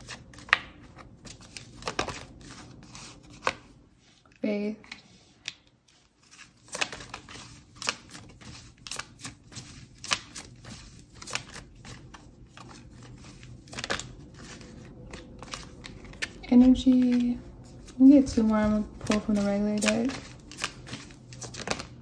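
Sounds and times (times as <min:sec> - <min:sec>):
playing cards being shuffled: 0:00.0 - 0:03.7, 0:06.2 - 0:22.0.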